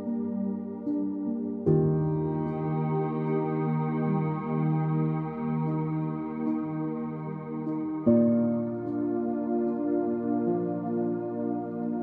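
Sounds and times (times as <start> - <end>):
ambient music with held chords: 0.0 - 12.0.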